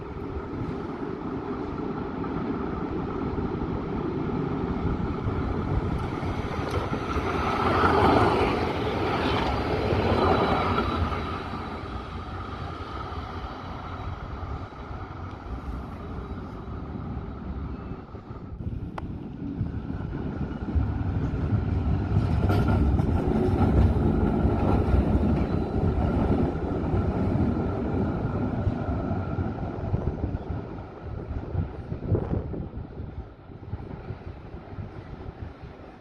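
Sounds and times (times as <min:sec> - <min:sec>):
tram passing by: 0:00.0 - 0:36.0.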